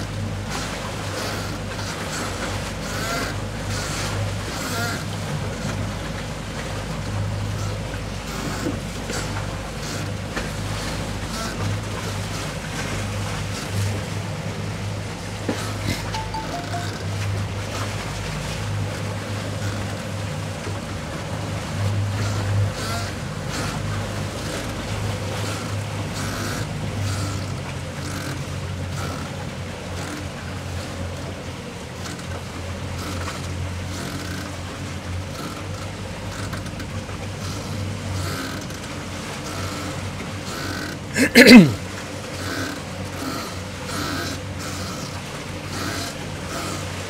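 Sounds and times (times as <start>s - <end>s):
boat engines humming: 0.0s - 47.0s
water washing along hulls: 0.0s - 47.0s.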